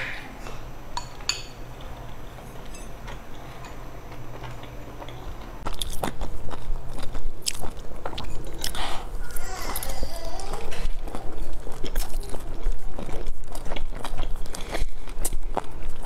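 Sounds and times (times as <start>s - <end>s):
person chewing: 1.8s - 16.0s.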